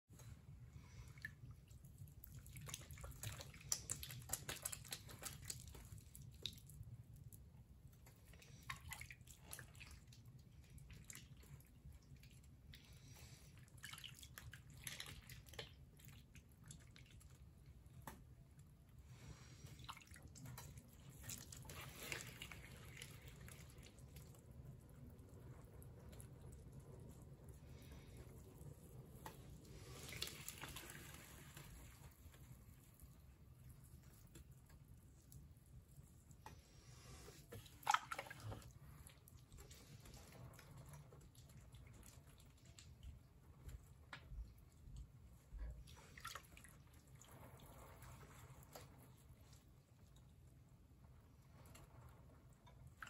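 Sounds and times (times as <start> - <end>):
wet clay squishing: 0.1 - 53.0.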